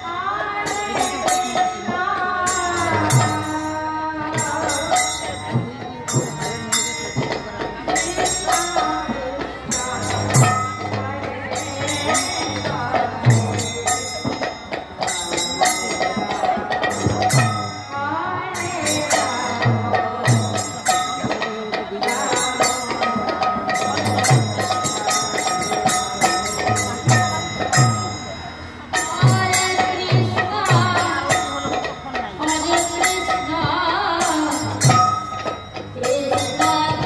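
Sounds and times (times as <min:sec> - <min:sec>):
harmonium chords: 0:00.0 - 0:37.0
jingling metal percussion: 0:00.0 - 0:37.0.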